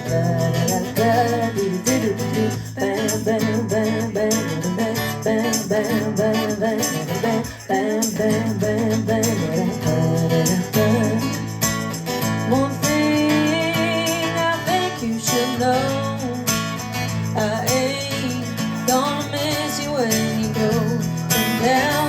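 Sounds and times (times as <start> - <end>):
person singing: 0.0 - 11.5, 12.5 - 22.0
shaker-like percussion: 0.0 - 22.0.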